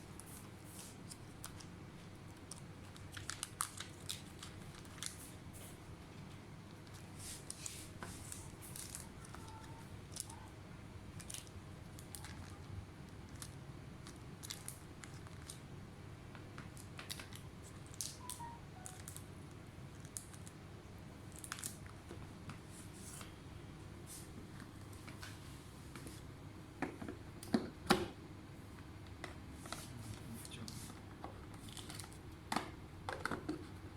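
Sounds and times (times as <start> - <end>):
low room hum: 0.0 - 33.9.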